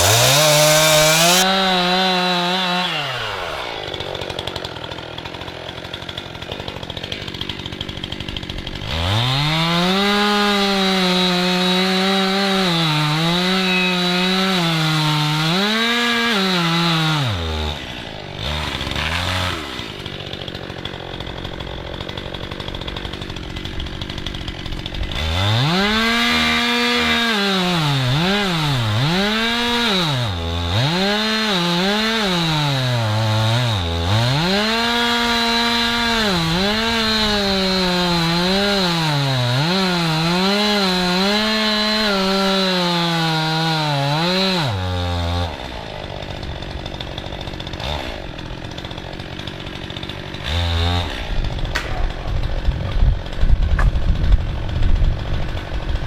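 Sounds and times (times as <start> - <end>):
chainsaw cutting at full throttle: 0.0 - 56.0.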